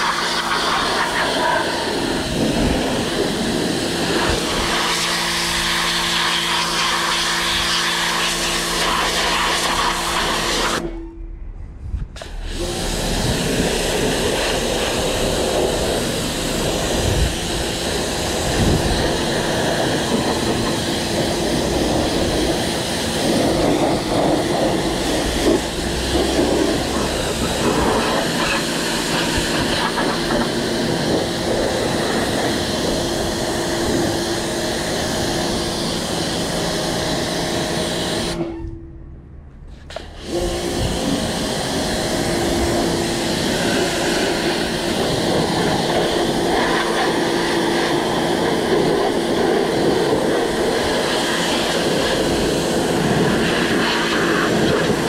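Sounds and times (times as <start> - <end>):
pressure washer spraying water: 0.0 - 10.9, 12.2 - 38.4, 40.0 - 55.0.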